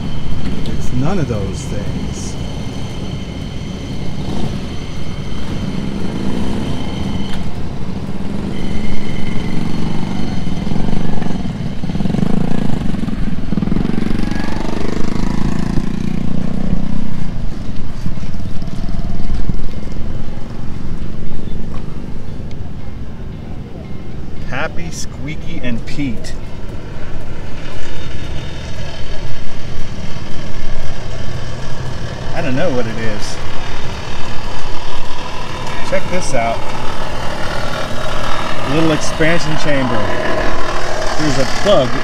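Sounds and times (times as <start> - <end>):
small motorcycle engine: 0.0 - 21.4, 26.2 - 42.0
steady high whine: 0.0 - 42.0.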